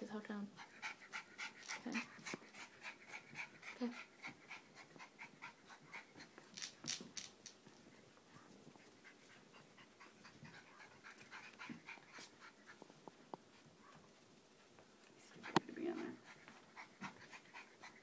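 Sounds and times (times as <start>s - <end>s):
puppy panting: 0.4s - 18.0s.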